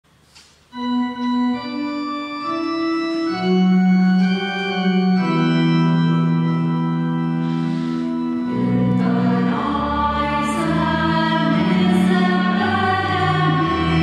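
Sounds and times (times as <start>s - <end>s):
organ playing sustained chords: 0.6s - 14.0s.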